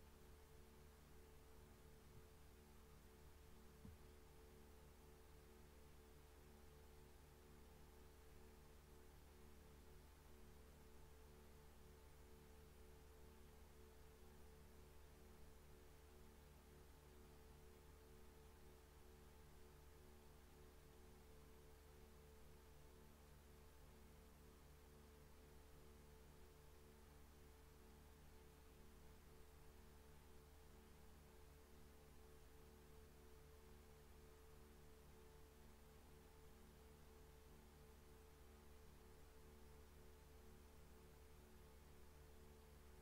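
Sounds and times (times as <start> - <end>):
faint steady low hum: 0.0 - 43.0.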